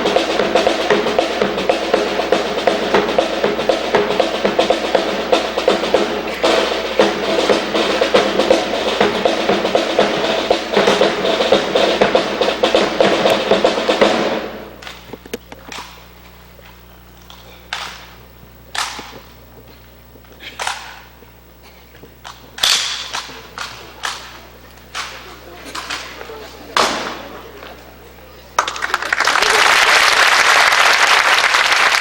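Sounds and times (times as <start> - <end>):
marching drums cadence: 0.0 - 28.9.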